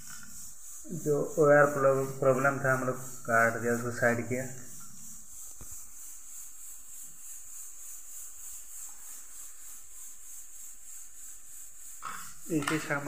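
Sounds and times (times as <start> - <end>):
high-pitched background hiss: 0.0 - 13.0.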